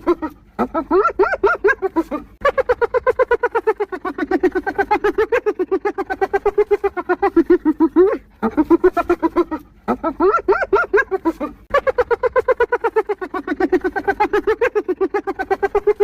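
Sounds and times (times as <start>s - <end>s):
hyena giggling whoops: 0.0s - 16.0s.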